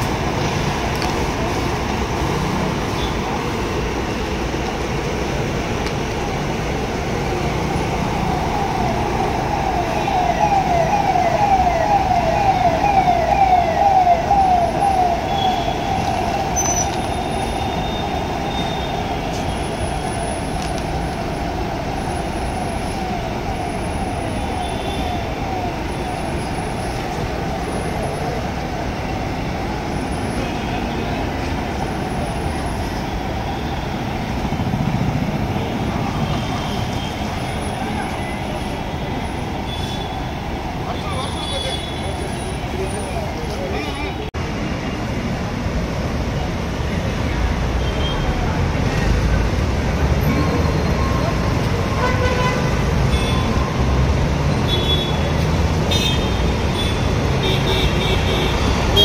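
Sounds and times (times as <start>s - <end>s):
bus engine rumbling: 0.0s - 55.9s.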